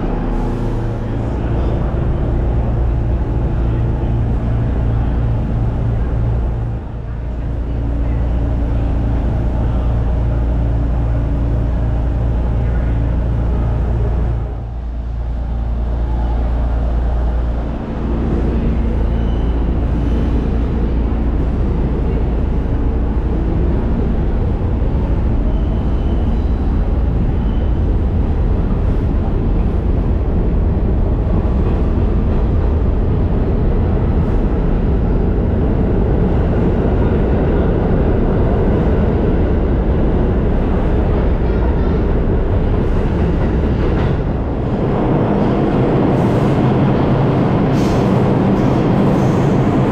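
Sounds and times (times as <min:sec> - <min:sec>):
diesel locomotive humming: 0:00.0 - 0:49.9
train wheels rumbling on rail: 0:00.0 - 0:49.9.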